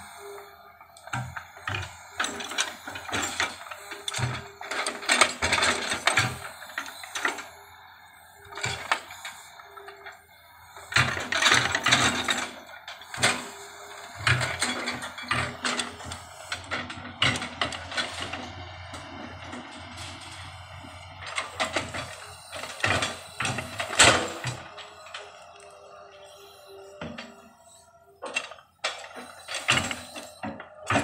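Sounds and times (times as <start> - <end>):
excavator clanking and scraping: 0.0 - 31.0
excavator whine: 0.0 - 31.0.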